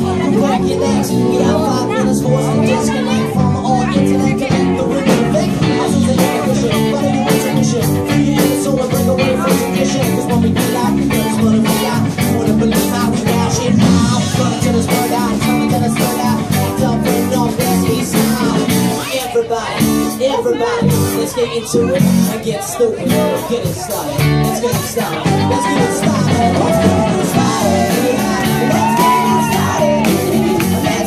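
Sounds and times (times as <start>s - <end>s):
live band playing dance music: 0.0s - 31.0s.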